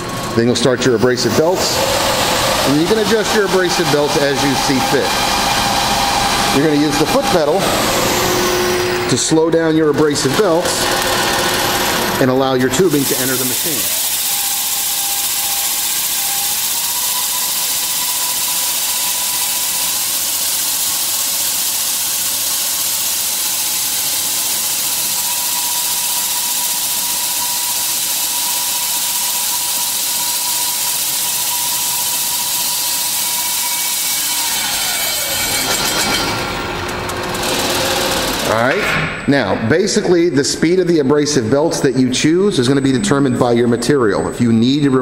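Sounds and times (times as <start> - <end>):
belt sanding machine grinding tube: 0.0 - 38.6.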